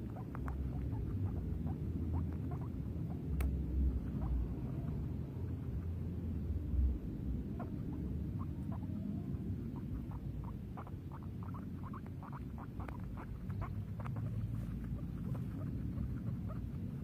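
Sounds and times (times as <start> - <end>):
guinea pig squeaking: 0.0 - 6.3, 7.4 - 17.0
low background rumble: 0.0 - 17.0.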